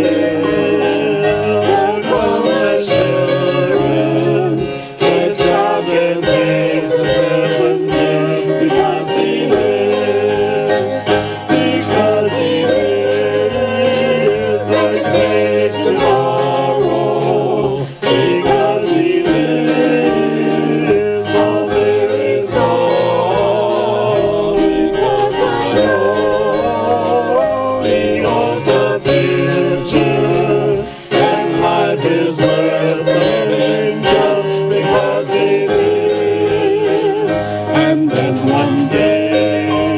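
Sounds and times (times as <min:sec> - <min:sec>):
worship song with instruments: 0:00.0 - 0:39.9.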